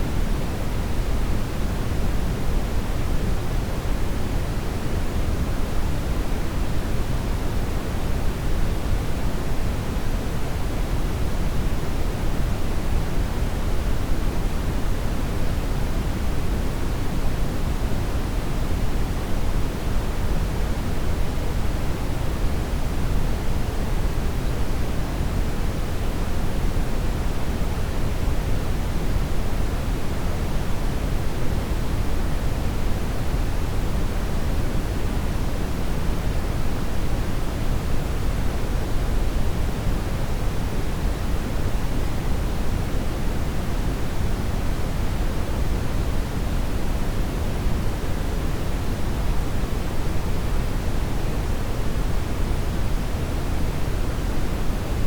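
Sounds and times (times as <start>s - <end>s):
steady brown noise: 8.7s - 55.0s.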